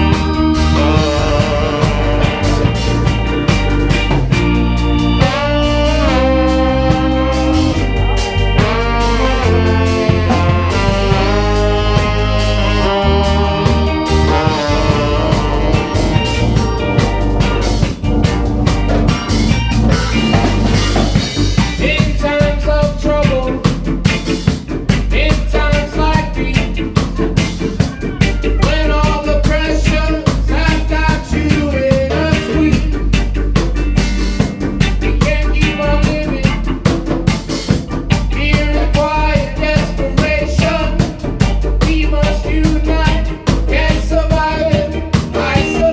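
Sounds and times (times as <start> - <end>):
reggae band playing: 0.0 - 45.9.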